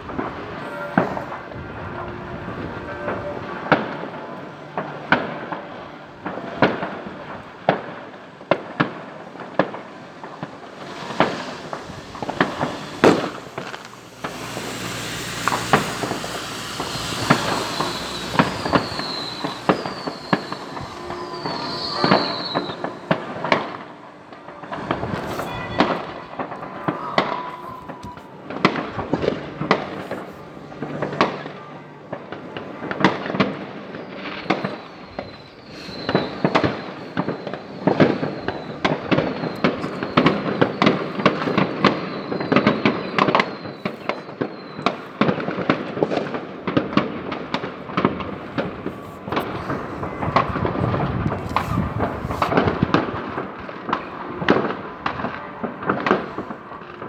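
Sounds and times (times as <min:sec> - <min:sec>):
falling firework whistles: 0:00.0 - 0:57.0
fireworks bangs and crackles: 0:00.0 - 0:57.0.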